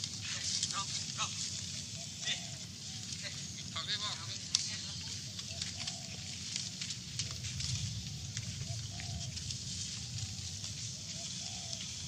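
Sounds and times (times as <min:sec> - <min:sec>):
faint crackles: 0:00.0 - 0:12.0
low steady rumble: 0:00.0 - 0:12.0.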